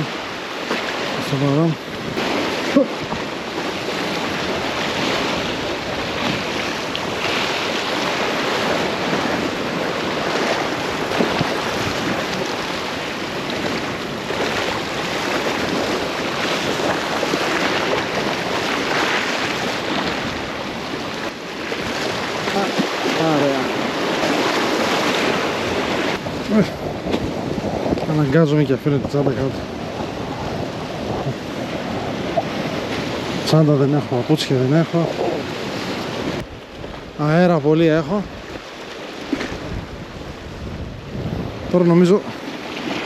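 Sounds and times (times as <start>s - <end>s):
sea waves washing against rocks: 0.0s - 43.0s
wind buffeting microphone: 0.0s - 43.0s.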